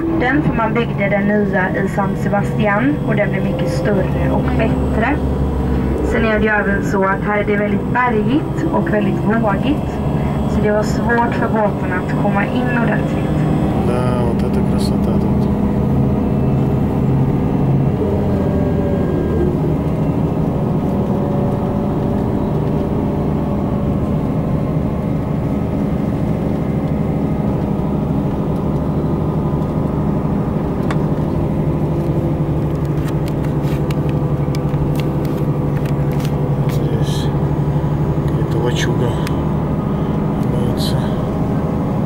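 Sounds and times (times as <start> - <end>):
coach engine and road noise: 0.0 - 42.0.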